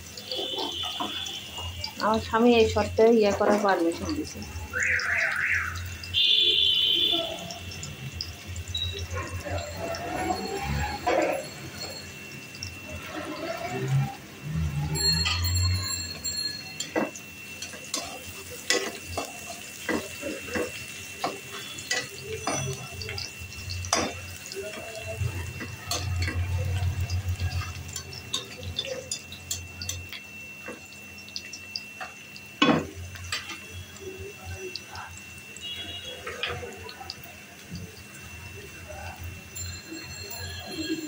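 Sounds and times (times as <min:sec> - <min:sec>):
spatula stirring in pan: 0:00.0 - 0:38.6
onions frying in hot oil: 0:00.0 - 0:41.0.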